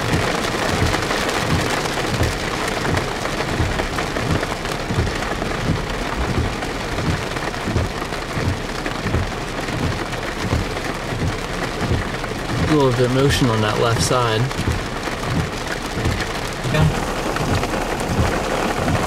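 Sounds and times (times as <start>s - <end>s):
rain on car windshield: 0.0s - 19.0s.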